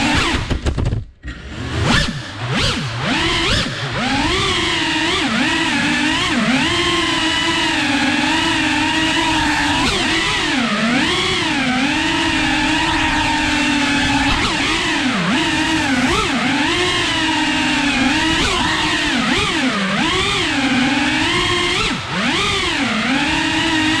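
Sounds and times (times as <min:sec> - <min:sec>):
drone motors whining: 0:01.2 - 0:24.0.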